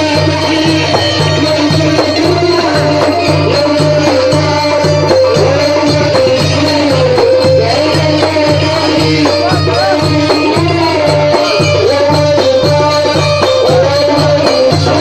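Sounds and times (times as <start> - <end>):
rattle or tambourine percussion: 0.0 - 15.0.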